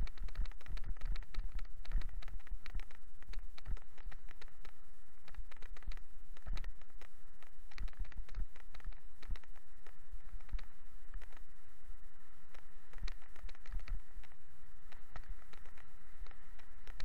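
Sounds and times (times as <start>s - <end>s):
knocks and rattles of bike: 0.0s - 11.4s, 12.5s - 17.0s
wind rumble on microphone: 0.0s - 17.0s.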